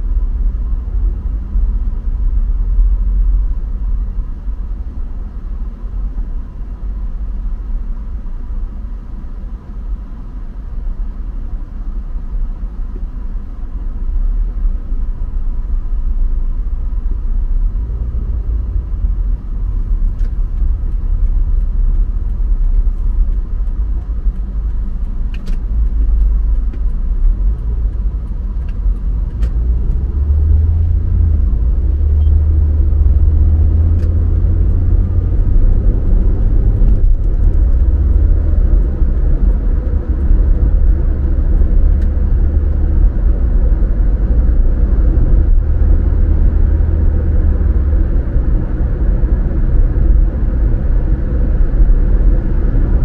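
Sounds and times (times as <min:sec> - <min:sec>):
car engine and tyre rumble: 0:00.0 - 0:53.0.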